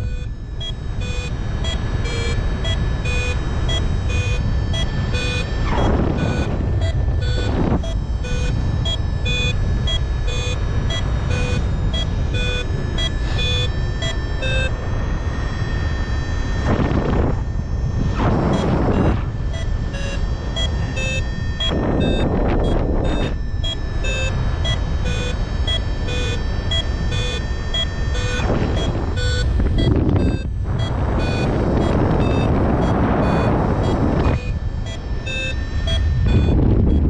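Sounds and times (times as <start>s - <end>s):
variometer beeping: 0.0s - 37.0s
wind rushing over microphone: 0.0s - 37.0s.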